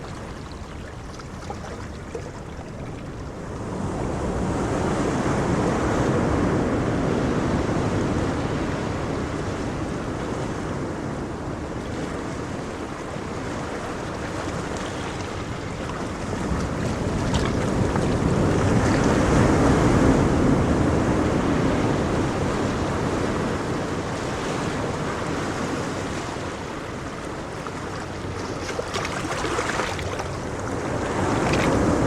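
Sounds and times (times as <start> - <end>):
ocean waves breaking: 0.0 - 32.0.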